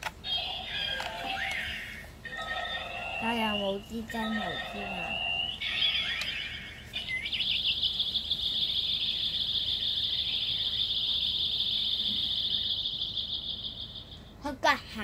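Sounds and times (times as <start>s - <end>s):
electronic chirp: 0.3s - 14.5s
high sparkling electronic tone: 0.4s - 14.4s.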